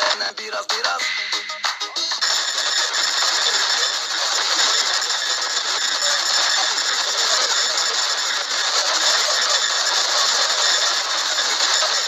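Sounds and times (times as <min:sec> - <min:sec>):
tv signal crackling noise: 0:00.0 - 0:12.0.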